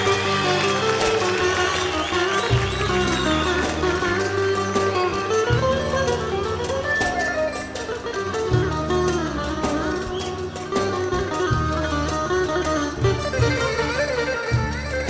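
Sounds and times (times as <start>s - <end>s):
bowed strings: 0.0s - 15.0s
plucked-string melody: 0.0s - 15.0s
sustained bass notes: 2.0s - 15.0s.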